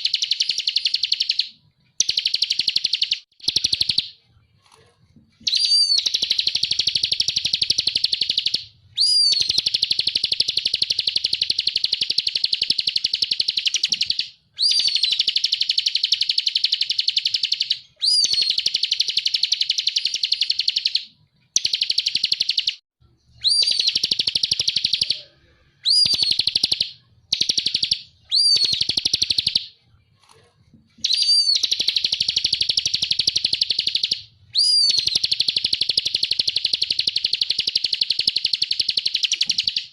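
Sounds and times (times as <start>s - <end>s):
bird upswept whistle: 0.0s - 4.2s, 5.4s - 22.8s, 23.4s - 29.8s, 31.0s - 39.9s.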